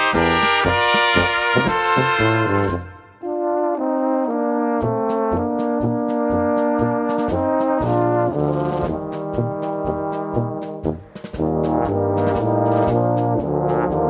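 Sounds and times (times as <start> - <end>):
brass music: 0.0 - 14.0.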